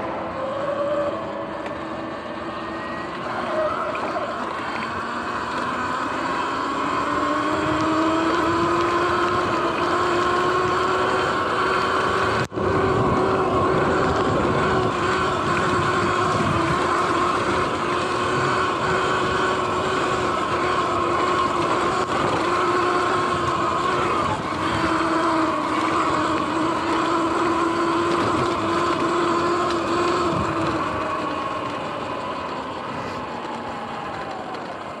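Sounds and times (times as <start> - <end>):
electric motorbike motor whine: 0.0 - 35.0
wind: 0.0 - 35.0.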